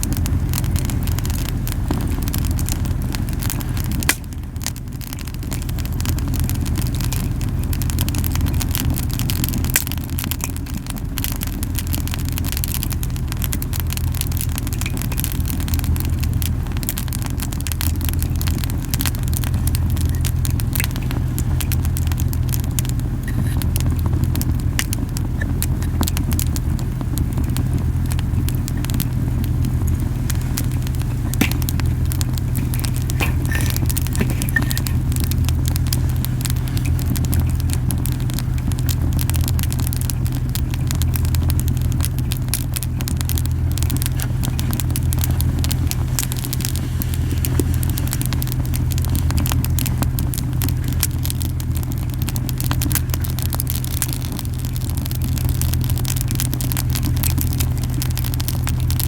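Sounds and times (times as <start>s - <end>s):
campfire crackling and popping: 0.0s - 59.0s
flames rumbling: 0.0s - 59.0s.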